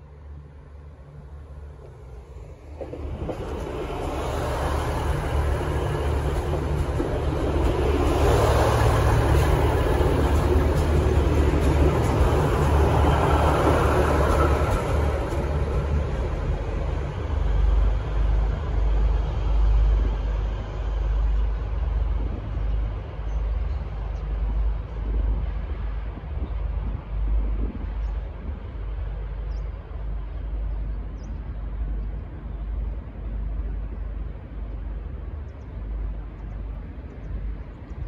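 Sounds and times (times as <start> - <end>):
diesel train engines: 0.0 - 38.0
train wheels on rails: 1.5 - 38.0.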